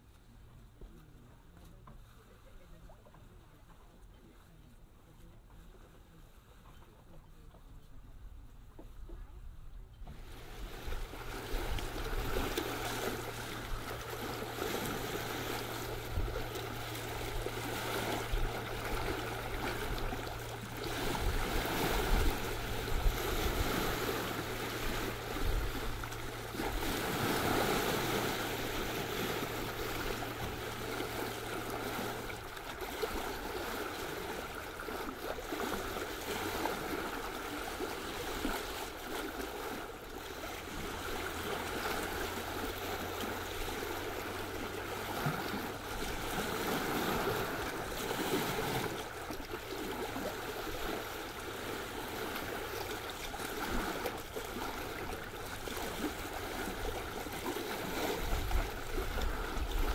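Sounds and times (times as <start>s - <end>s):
low steady hum: 0.0s - 59.9s
sea water rushing along bow: 0.0s - 59.9s.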